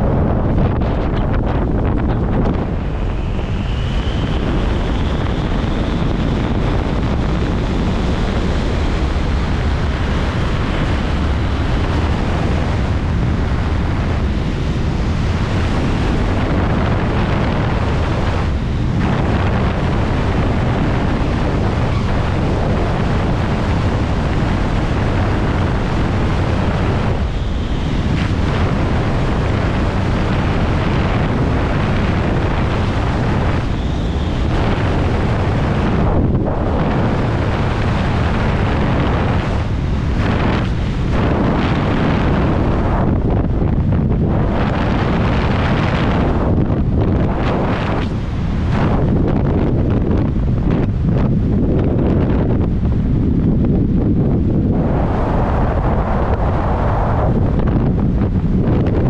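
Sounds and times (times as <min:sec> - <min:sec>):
heavy wind buffeting microphone: 0:00.0 - 0:59.0.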